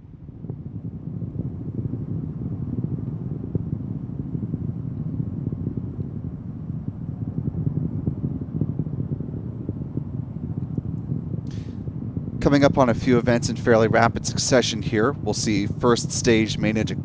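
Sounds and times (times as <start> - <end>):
rocket engines crackling rumble: 0.0 - 17.0.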